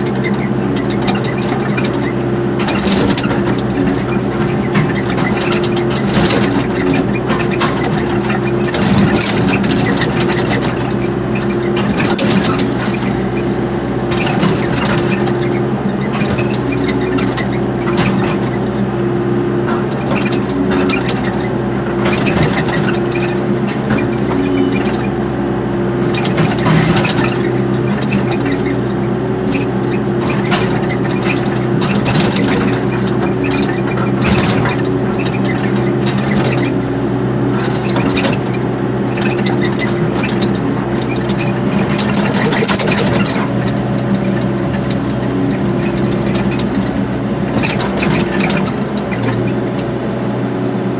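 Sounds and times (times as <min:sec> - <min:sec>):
machine knocks and clatter: 0:00.0 - 0:18.8, 0:19.6 - 0:25.1, 0:26.1 - 0:28.8, 0:29.5 - 0:36.8, 0:37.5 - 0:49.9
excavator diesel engine running: 0:00.0 - 0:50.9.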